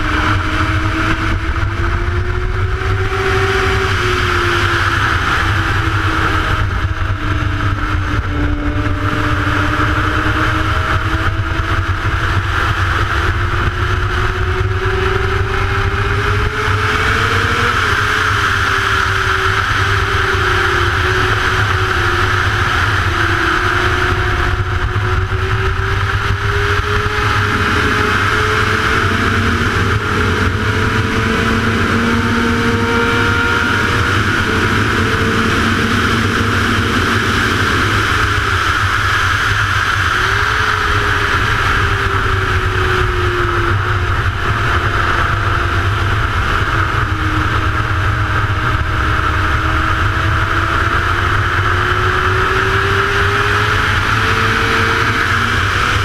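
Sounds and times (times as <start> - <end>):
motorcycle engine at high revs: 0.0 - 56.0
wind rushing over microphone: 0.0 - 56.0.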